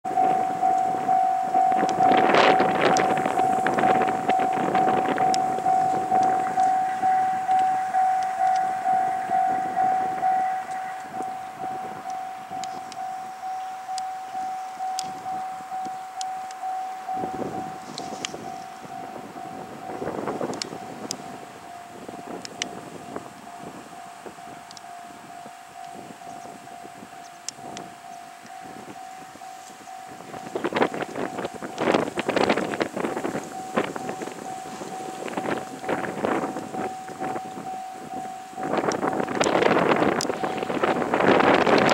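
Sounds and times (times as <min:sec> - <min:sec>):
level crossing warning bell: 0:00.0 - 0:41.9
train rumbling over rails: 0:00.0 - 0:41.9.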